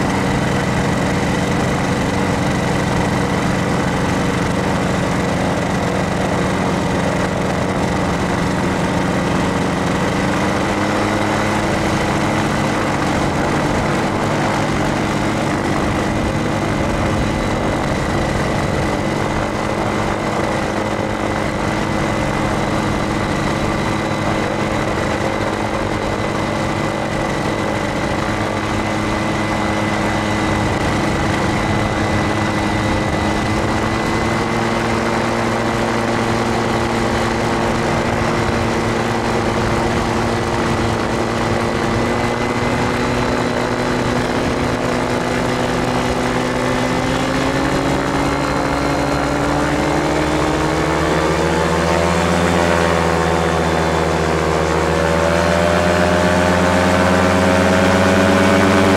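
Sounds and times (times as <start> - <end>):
engine and propeller running hard: 0.0 - 58.9
wind noise: 0.0 - 58.9.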